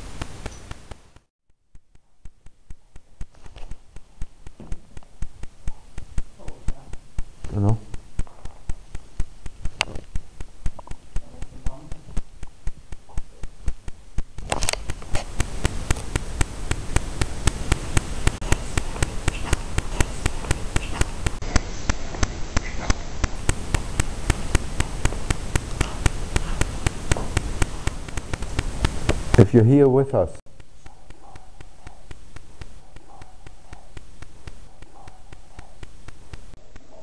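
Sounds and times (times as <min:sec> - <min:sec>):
fast even ticks: 0:00.0 - 0:37.0
recording hiss: 0:00.0 - 0:37.0.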